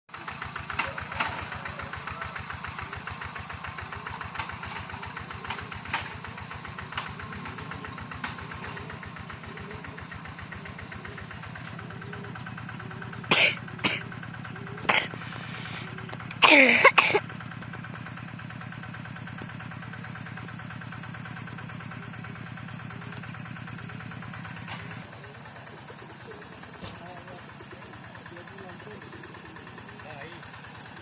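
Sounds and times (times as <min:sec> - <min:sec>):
diesel tractor engine running: 0:00.1 - 0:31.0.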